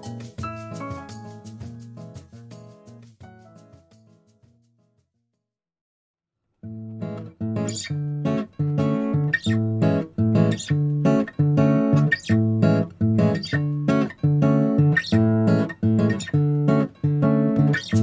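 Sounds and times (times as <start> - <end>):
bossa nova acoustic guitar music: 0.0 - 3.8, 6.6 - 18.0.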